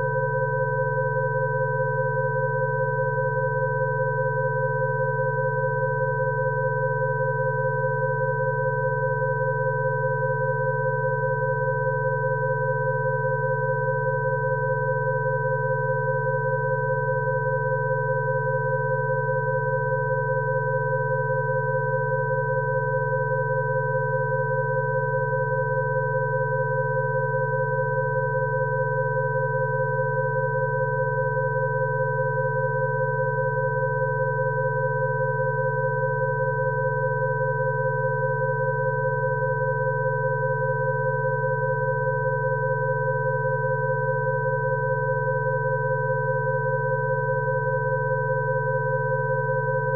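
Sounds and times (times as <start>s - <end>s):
steady electronic sine tones: 0.0s - 49.9s.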